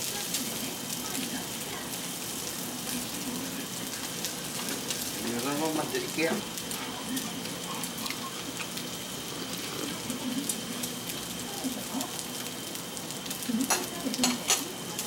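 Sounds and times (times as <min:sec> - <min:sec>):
meat sizzling on grill pan: 0:00.0 - 0:15.0.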